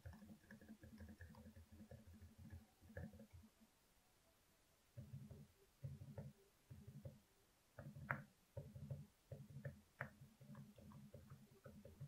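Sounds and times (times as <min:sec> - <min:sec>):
soft muffled keyboard typing: 0:00.0 - 0:03.7, 0:04.9 - 0:12.0.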